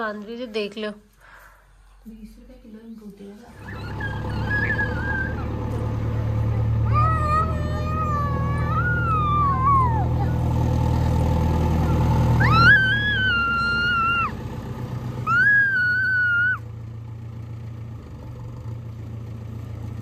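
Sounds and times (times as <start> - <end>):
low engine hum: 3.4 - 20.0.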